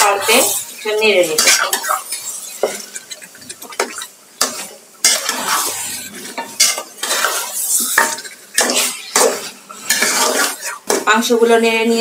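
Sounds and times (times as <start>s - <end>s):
meat sizzling in oil: 0.0s - 11.4s
metal spoon scraping a pot: 0.1s - 11.0s.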